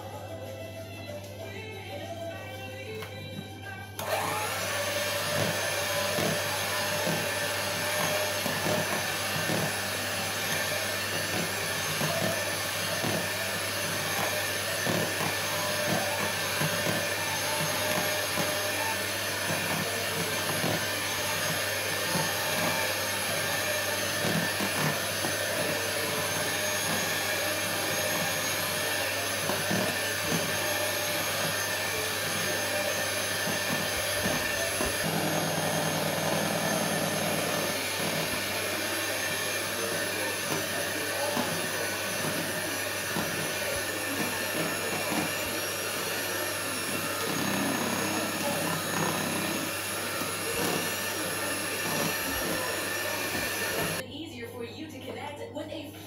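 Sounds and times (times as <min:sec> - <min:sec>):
electric hand mixer whining: 0:00.0 - 0:54.0.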